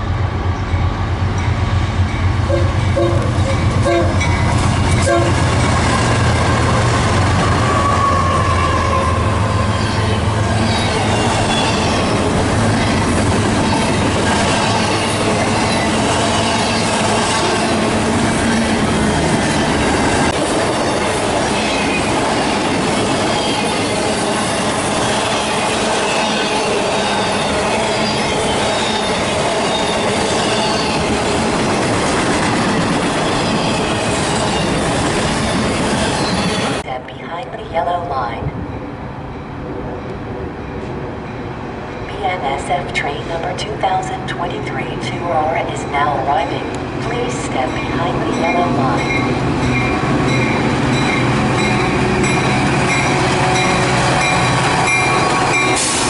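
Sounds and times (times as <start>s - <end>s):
train wheels rumbling on rail: 0.0s - 36.8s, 46.6s - 56.0s
low locomotive drone: 0.0s - 56.0s.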